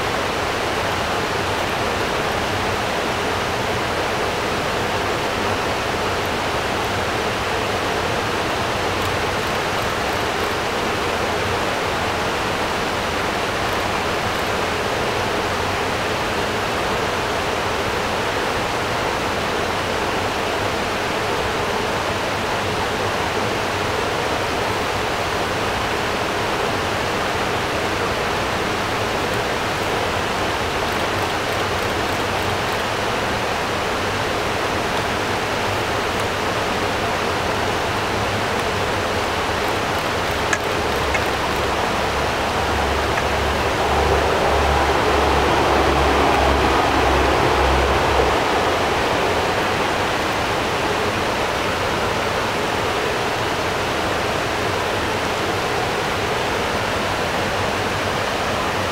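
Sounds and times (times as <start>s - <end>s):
river water rushing over stone: 0.0s - 58.9s.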